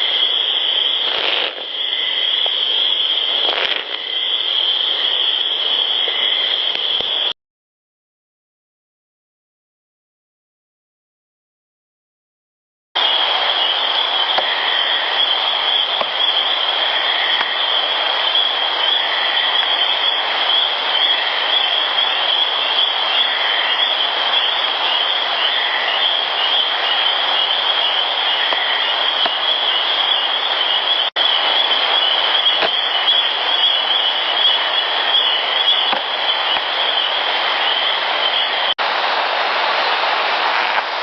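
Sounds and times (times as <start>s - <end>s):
steady hiss: 0.0s - 7.3s, 13.0s - 41.0s
constant high-pitched whine: 0.0s - 7.4s, 13.0s - 41.0s.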